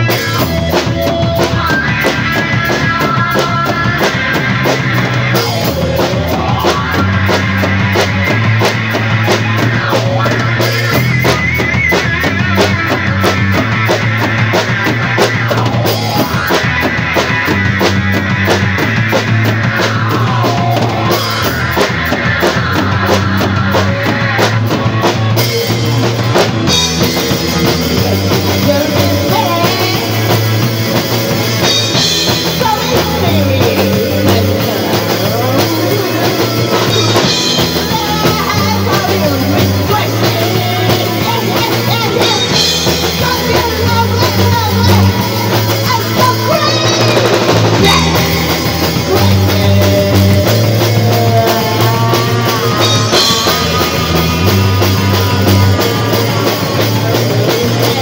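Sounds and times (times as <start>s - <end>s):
drum kit with cymbals: 0.0s - 58.0s
electric bass: 0.0s - 58.0s
electric guitar wavering notes: 0.0s - 58.0s.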